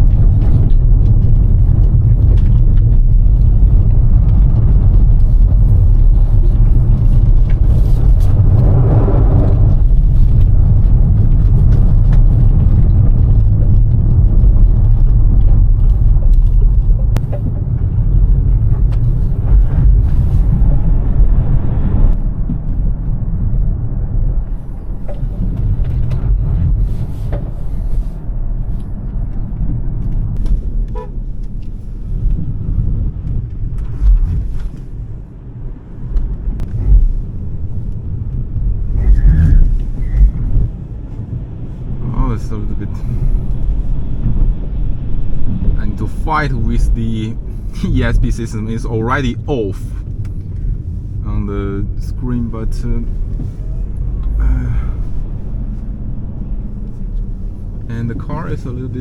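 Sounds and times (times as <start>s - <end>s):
road and tyre rumble: 0.0s - 59.0s.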